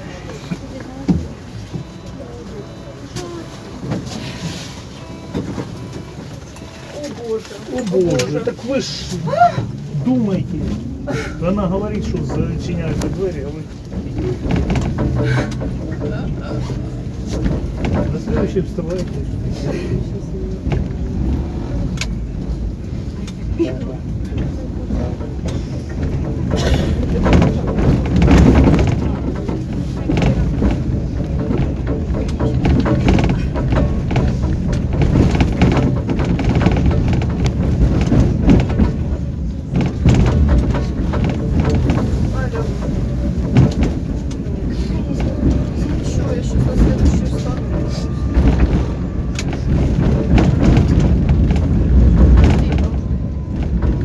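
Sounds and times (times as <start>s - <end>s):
tram rumbling: 0.0s - 54.0s
knocks and rattles: 5.0s - 54.0s.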